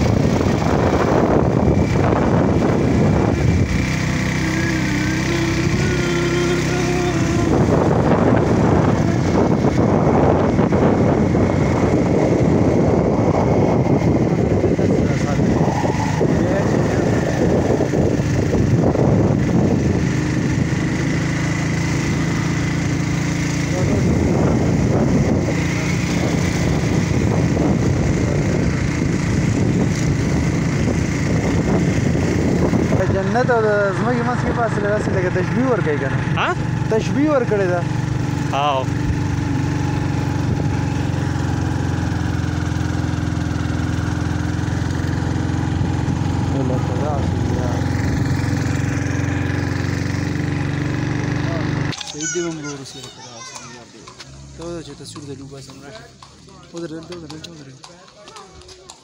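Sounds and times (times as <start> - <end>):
road noise: 0.0 - 59.0
vehicle engine running: 0.0 - 59.0.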